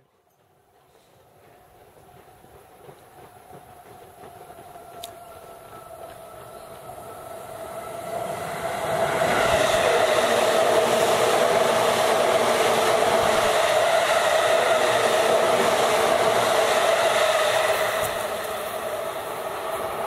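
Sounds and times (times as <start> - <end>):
train whine: 0.0 - 20.0
electric train passing: 0.1 - 20.0.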